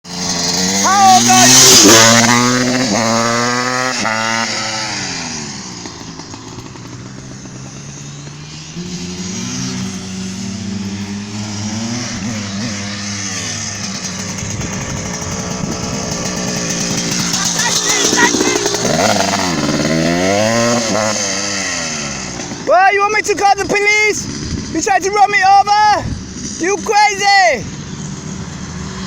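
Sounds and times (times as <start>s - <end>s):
dirt bike engine revving: 0.1s - 29.0s.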